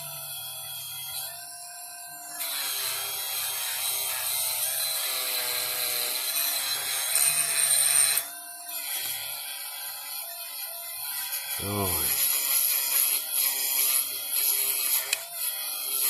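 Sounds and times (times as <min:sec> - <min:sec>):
rotary tool grinding metal: 0:00.0 - 0:16.0.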